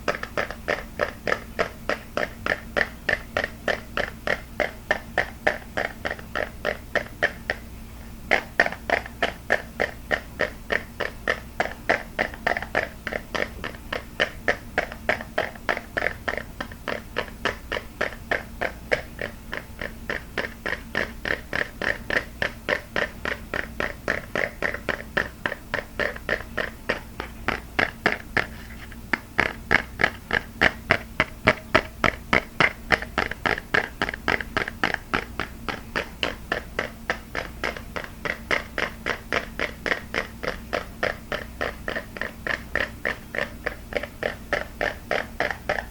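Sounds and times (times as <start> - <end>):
fast even tapping: 0.0 - 45.9.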